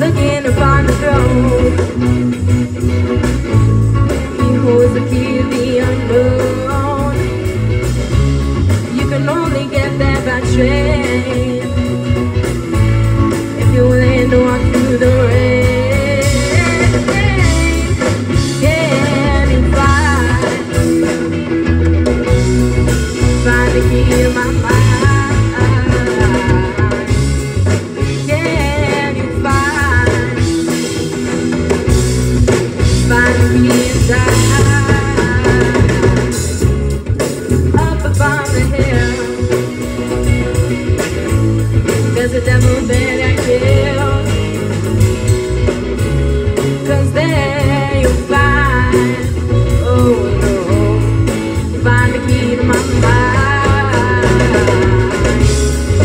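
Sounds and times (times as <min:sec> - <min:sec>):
lead vocalist singing: 0:00.0 - 0:31.4, 0:32.8 - 0:45.4, 0:46.4 - 0:56.0
live rock band playing: 0:00.0 - 0:56.0.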